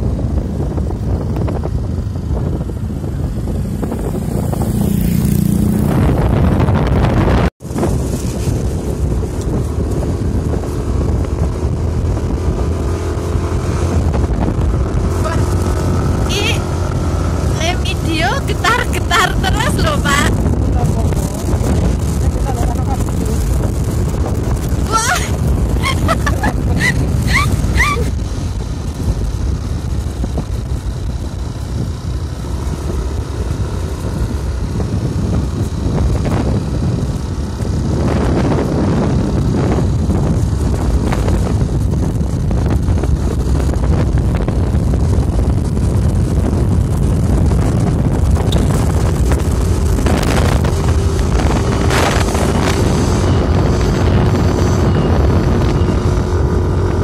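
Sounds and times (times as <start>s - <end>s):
scooter engine: 0.0s - 6.9s, 7.7s - 57.0s
wind buffeting microphone: 0.0s - 57.0s.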